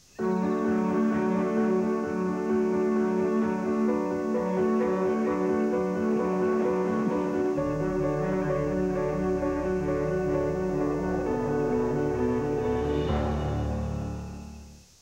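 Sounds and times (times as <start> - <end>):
instrumental music with held notes: 0.0 - 15.0.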